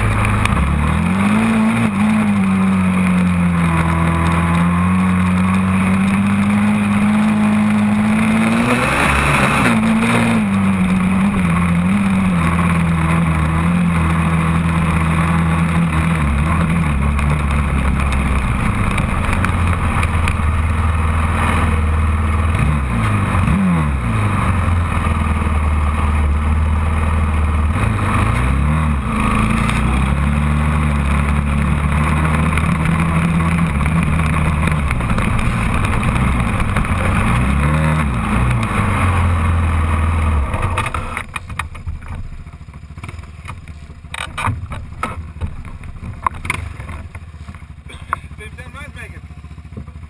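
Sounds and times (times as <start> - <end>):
quad engine running hard: 0.0 - 50.0.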